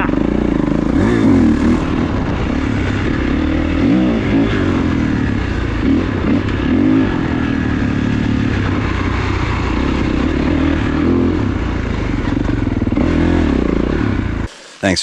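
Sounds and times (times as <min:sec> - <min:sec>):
motorcycle engine revving: 0:00.0 - 0:14.7.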